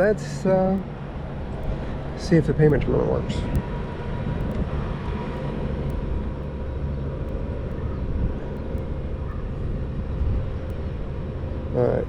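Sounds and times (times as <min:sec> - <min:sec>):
background traffic rumble: 0:00.0 - 0:12.0
faint steady hum: 0:00.0 - 0:12.0.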